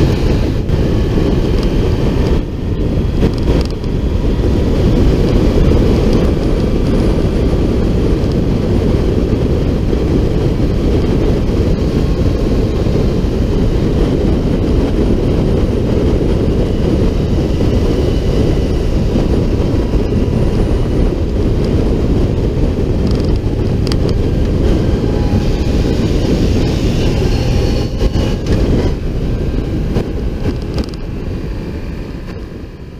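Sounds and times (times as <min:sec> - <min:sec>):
motorcycle engine running: 0:00.0 - 0:32.9
wind and road noise: 0:00.0 - 0:32.9.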